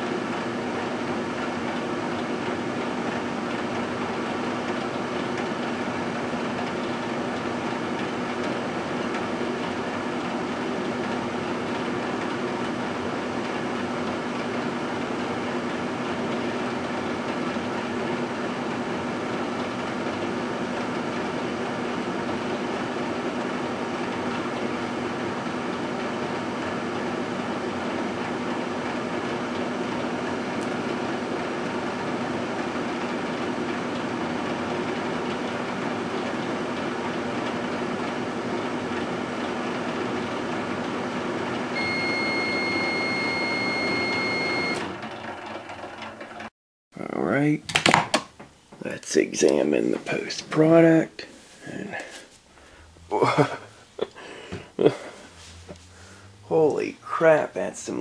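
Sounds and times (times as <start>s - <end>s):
microwave oven hum: 0.0s - 46.5s, 51.7s - 58.0s.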